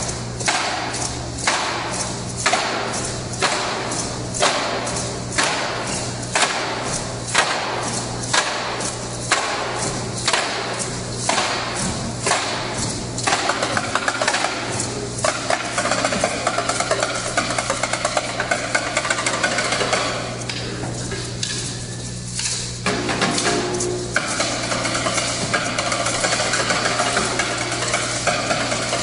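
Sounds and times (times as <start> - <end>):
percussion on plastic buckets and drums: 0.0 - 29.0.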